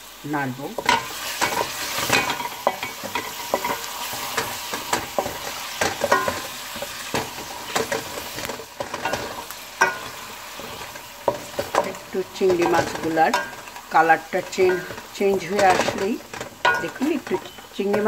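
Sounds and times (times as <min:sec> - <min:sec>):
food sizzling in oil: 0:00.0 - 0:18.0
spatula scraping a pan: 0:00.8 - 0:18.0.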